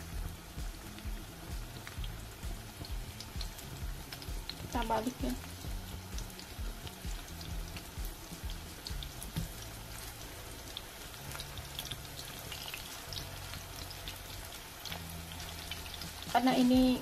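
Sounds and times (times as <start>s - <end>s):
fritters sizzling in oil: 0.0s - 17.0s
quiet background music: 0.0s - 17.0s.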